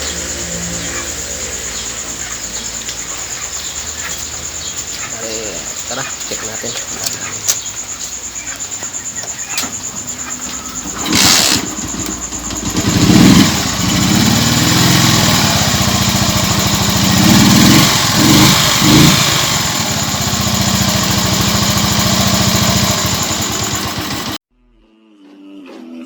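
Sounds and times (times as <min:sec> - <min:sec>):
motorcycle engine revving and idling: 0:00.0 - 0:24.4.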